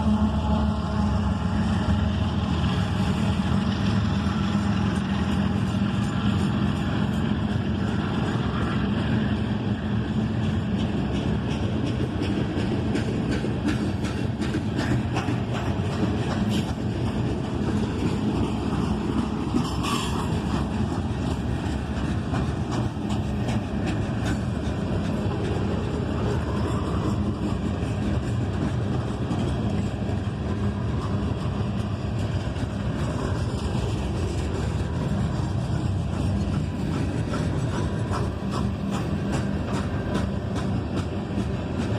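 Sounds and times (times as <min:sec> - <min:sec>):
train wheels rumbling on rails: 0:00.0 - 0:41.9
wheels clicking and clacking: 0:02.6 - 0:41.9.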